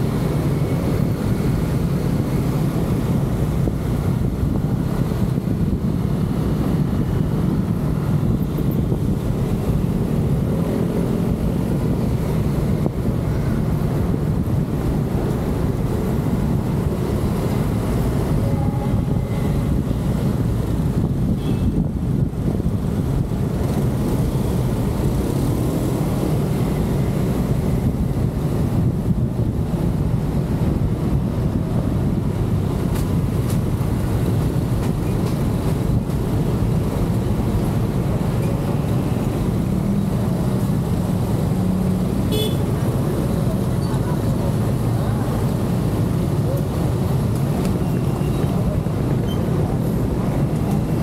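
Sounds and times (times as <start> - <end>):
vehicle road and engine noise: 0.0 - 51.0
wind noise on microphone: 0.0 - 51.0.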